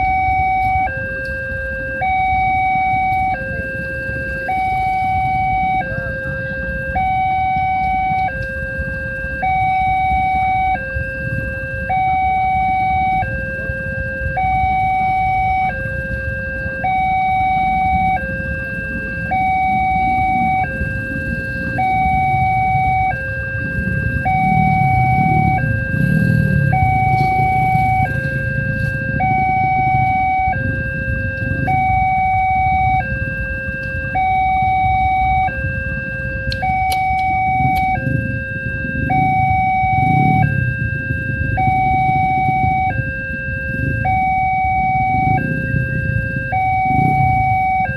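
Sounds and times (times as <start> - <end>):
two-tone level crossing alarm: 0.0 - 47.9
low rumble: 2.1 - 47.9.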